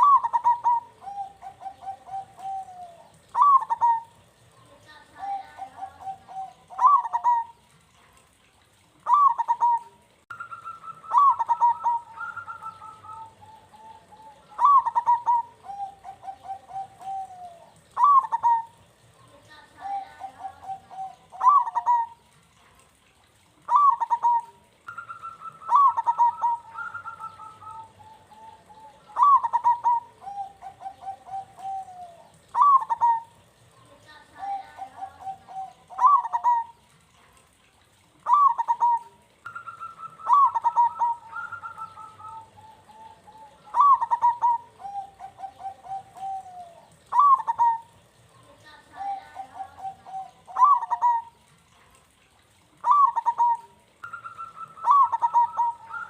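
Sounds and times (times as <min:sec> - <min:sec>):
dove cooing: 0:00.0 - 0:08.1, 0:08.9 - 0:37.1, 0:38.2 - 0:56.0.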